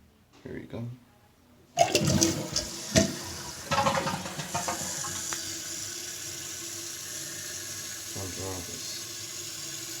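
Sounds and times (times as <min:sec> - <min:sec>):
toilet flushing: 0:01.8 - 0:10.0.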